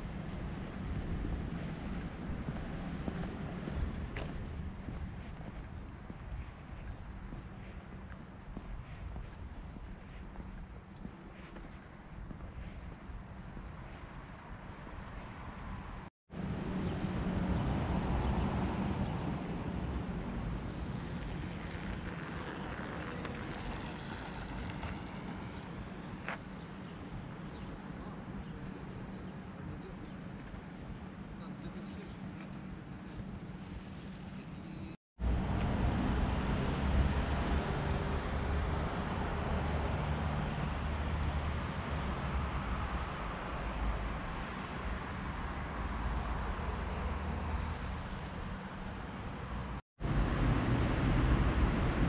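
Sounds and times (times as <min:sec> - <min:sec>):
distant road traffic: 0:00.0 - 0:52.0.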